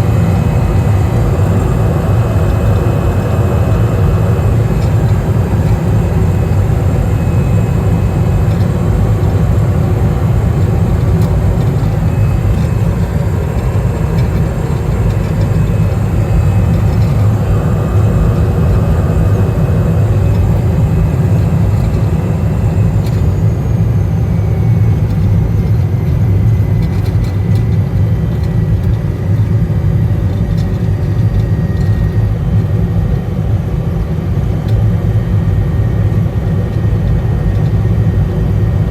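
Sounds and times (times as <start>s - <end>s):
faint high whine: 0.0s - 33.8s
turboprop engine droning: 0.0s - 38.9s.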